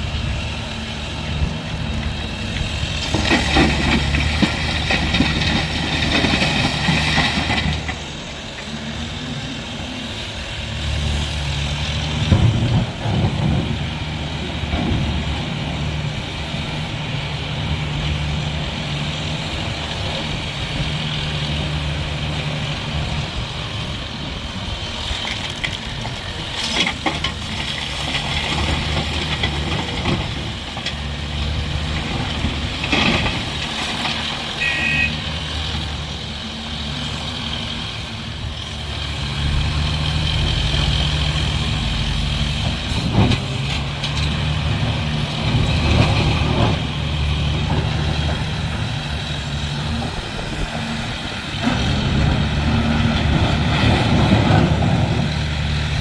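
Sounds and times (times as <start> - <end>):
diesel machine engine running: 0.0 - 56.0.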